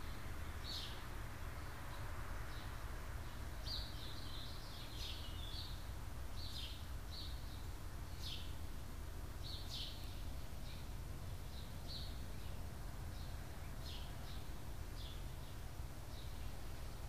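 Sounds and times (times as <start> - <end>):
birds chirping: 0.0 - 8.7, 9.3 - 17.0.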